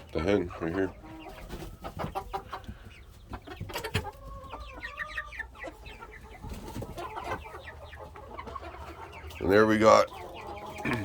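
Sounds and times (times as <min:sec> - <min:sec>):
chickens clucking and chirping: 0:00.0 - 0:11.0
drawn-out chicken call: 0:00.0 - 0:11.0.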